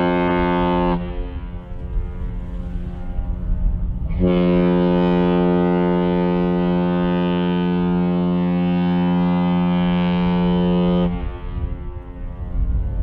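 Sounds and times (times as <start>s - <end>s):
deep ferry horn blast: 0.0s - 13.0s.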